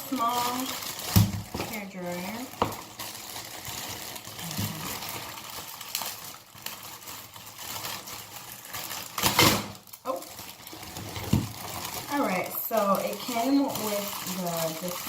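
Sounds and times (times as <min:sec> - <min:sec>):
plastic packaging rustling: 0:00.0 - 0:15.0.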